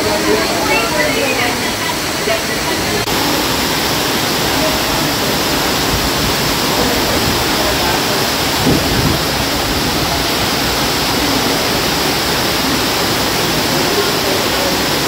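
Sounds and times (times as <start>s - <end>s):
waterfall rushing water: 0.0s - 15.0s.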